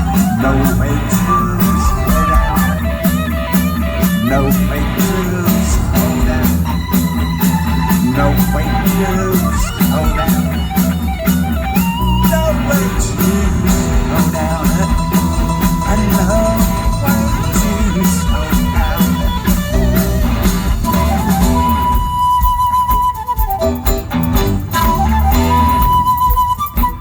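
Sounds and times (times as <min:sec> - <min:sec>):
bass guitar: 0:00.0 - 0:27.0
guitar line: 0:00.0 - 0:27.0
steady drum beat: 0:00.0 - 0:27.0.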